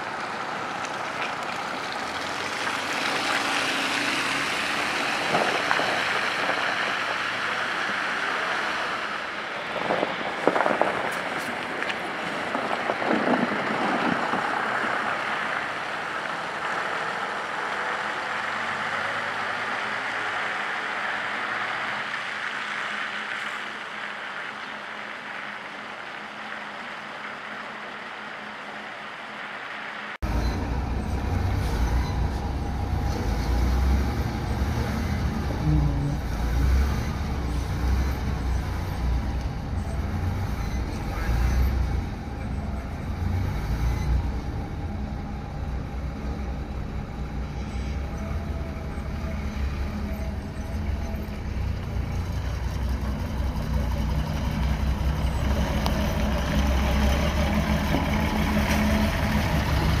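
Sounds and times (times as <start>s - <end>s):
bus diesel engines idling: 0.0s - 60.0s.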